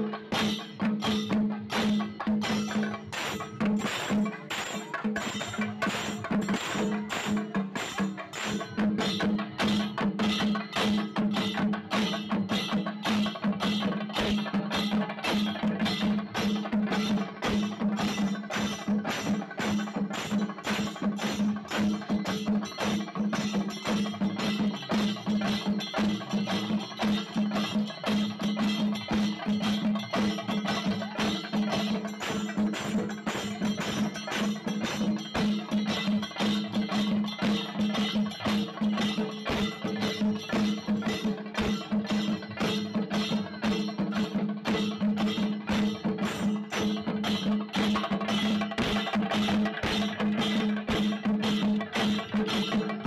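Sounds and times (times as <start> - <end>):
drum ensemble beating fast: 0.0 - 53.0.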